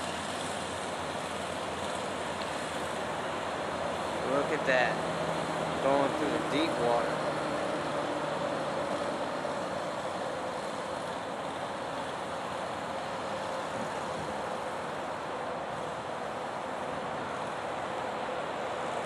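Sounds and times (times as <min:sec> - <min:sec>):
vehicle driving through water: 0:00.0 - 0:19.0.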